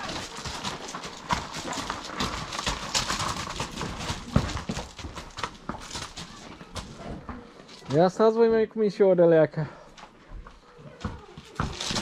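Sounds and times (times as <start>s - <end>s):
horse hooves clopping and scuffing: 0.0s - 8.9s, 9.9s - 12.0s.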